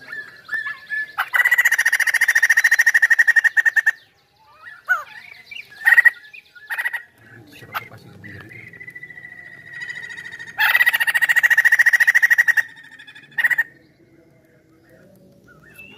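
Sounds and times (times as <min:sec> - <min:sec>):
bird chattering song: 0:00.0 - 0:15.9
bird whistles and harsh calls: 0:00.0 - 0:15.9.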